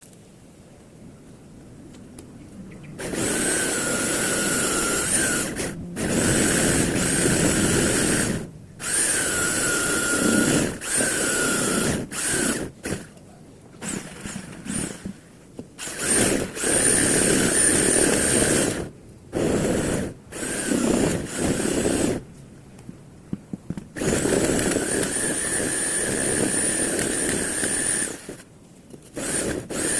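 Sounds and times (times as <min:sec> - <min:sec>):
rotary hammer drilling concrete: 0:03.0 - 0:13.2, 0:13.8 - 0:22.3, 0:23.7 - 0:29.9.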